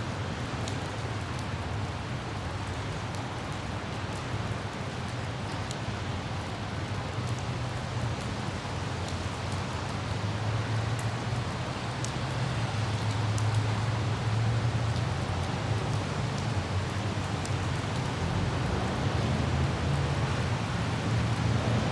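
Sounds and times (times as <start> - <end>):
light rain falling: 0.0 - 21.9.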